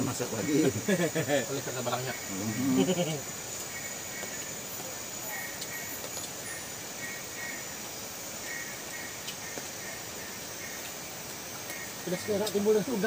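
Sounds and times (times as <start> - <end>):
insect chirps: 0.0 - 13.0
insects buzzing: 0.0 - 13.0.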